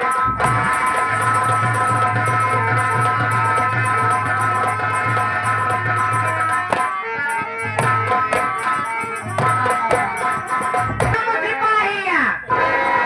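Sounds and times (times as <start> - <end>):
hand drum strokes: 0.0 - 11.2
jingling percussion: 0.0 - 11.2.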